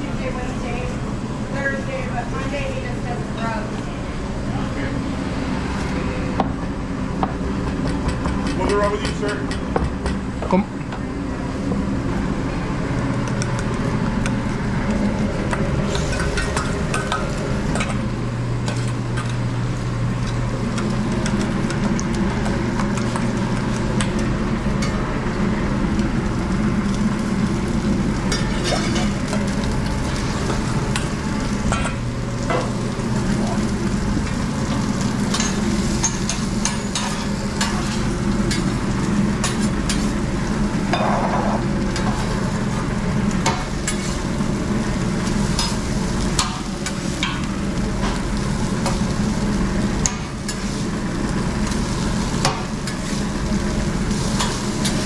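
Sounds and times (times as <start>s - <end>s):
food frying and sizzling: 0.0s - 55.0s
steady low hum: 0.0s - 55.0s.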